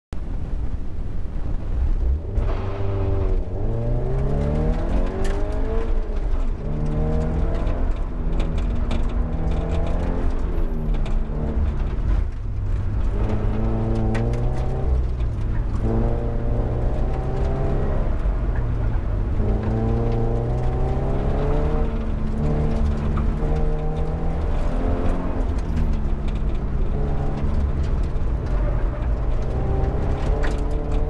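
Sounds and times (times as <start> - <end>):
car engine revving: 1.4 - 31.0.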